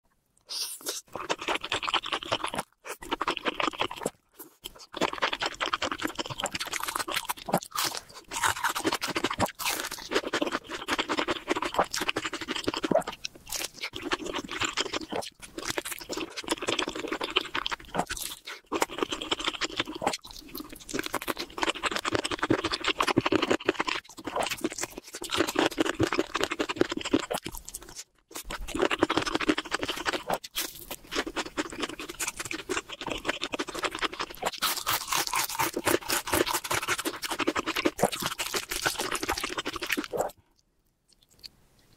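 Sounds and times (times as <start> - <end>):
crunching and chewing chicken: 0.4 - 41.9.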